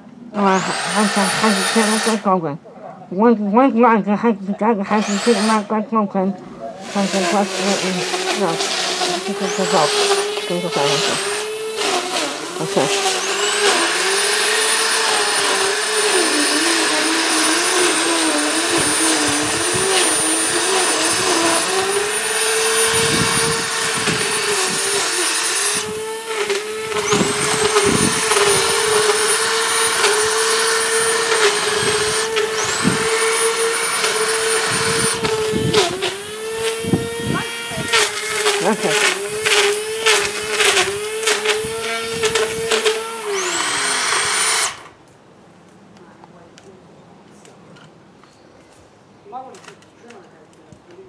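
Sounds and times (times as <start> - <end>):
electric hedge trimmer cutting: 0.3 - 2.6, 4.7 - 6.1, 6.8 - 45.0.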